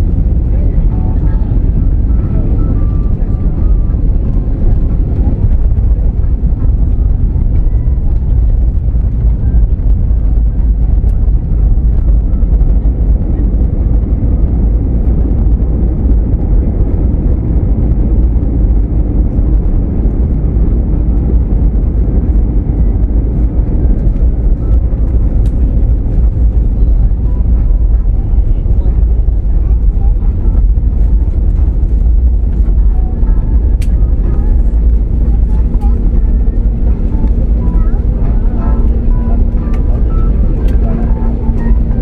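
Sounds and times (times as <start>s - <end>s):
aircraft rumbling along runway: 0.0s - 42.0s.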